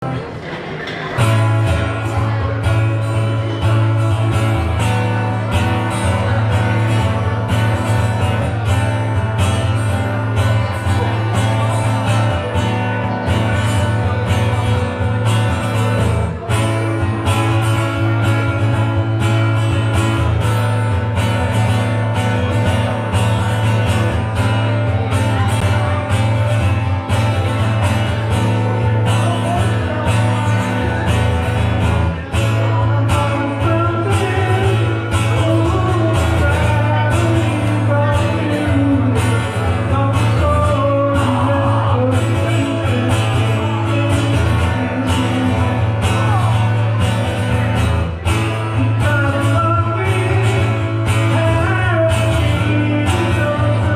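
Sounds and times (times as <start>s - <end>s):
guitar: 0.0s - 53.9s
bass line: 1.2s - 53.9s.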